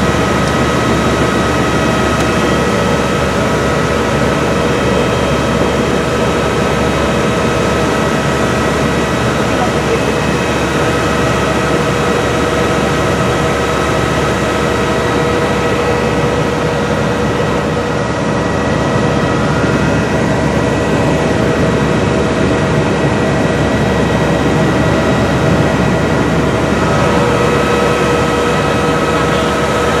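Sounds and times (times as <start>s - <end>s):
high steady whines: 0.0s - 30.0s
jet aircraft engines roaring: 0.0s - 30.0s.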